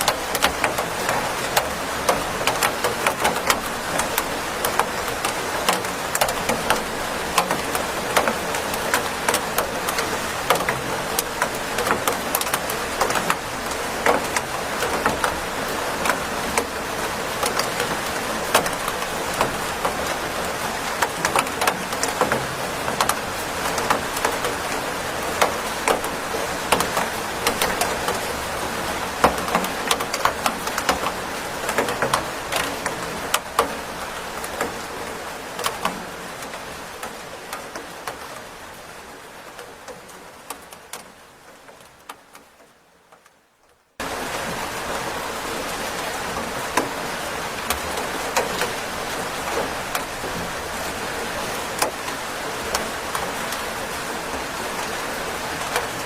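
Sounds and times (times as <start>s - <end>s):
raindrops ticking: 0.0s - 56.0s
steady rain hiss: 0.0s - 56.0s.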